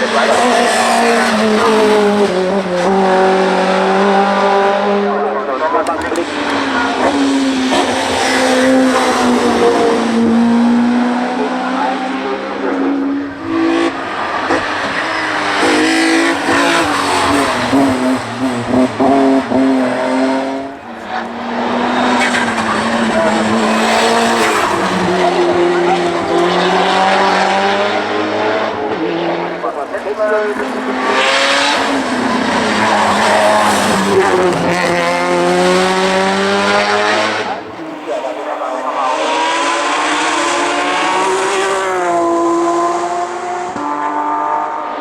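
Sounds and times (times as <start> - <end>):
race car engine accelerating: 0.0 - 45.0.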